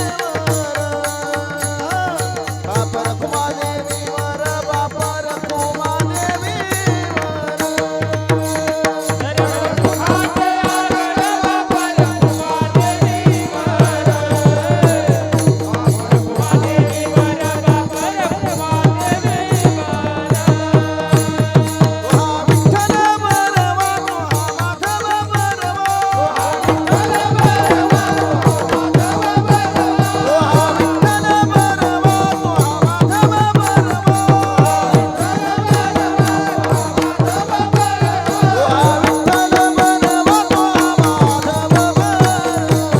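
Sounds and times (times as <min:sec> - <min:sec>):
hand drum beating: 0:00.0 - 0:42.9.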